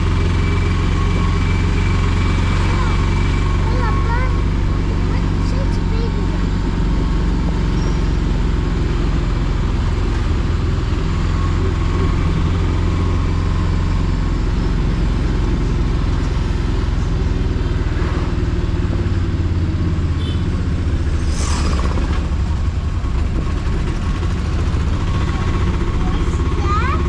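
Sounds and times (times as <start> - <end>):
small engine running: 0.0 - 20.4, 21.0 - 27.0
road noise: 0.0 - 27.0.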